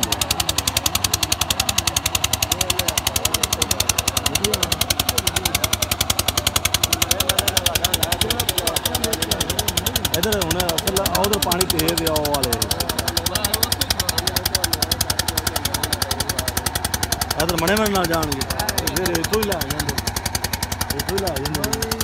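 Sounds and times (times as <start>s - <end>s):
engine chugging: 0.0s - 22.0s
faint voices: 0.0s - 22.0s.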